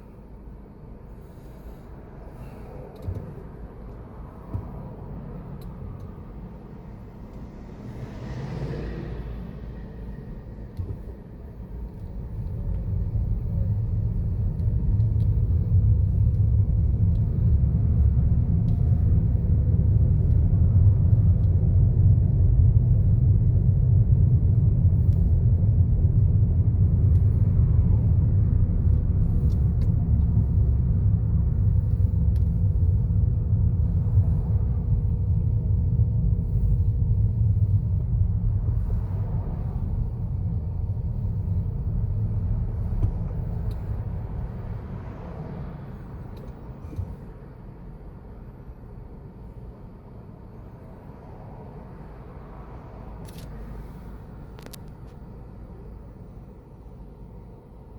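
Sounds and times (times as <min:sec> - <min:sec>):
car road and engine noise: 0:00.0 - 0:57.9.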